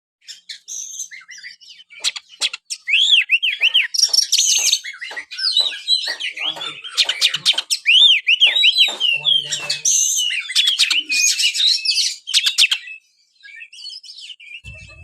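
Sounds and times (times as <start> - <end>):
songbird singing chirps and whistles: 0.2 - 15.0.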